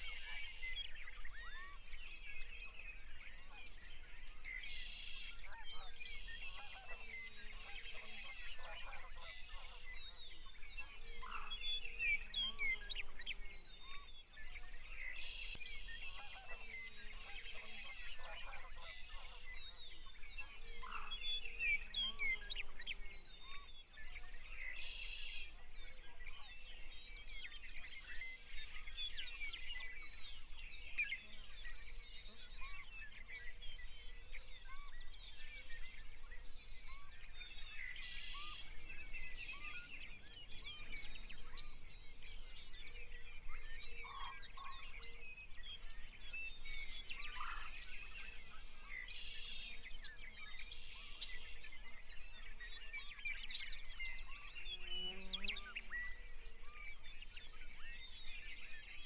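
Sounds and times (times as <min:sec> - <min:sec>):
birds chirping and singing: 0:00.0 - 0:59.0.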